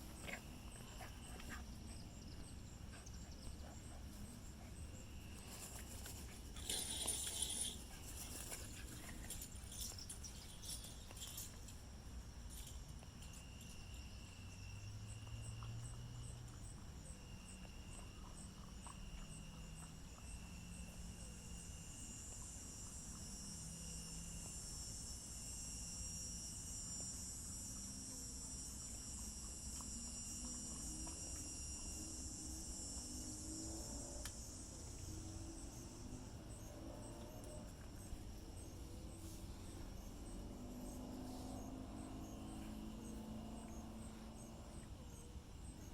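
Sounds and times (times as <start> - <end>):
high fine insect trill: 0.0 - 45.9
insects chirping: 0.0 - 45.9.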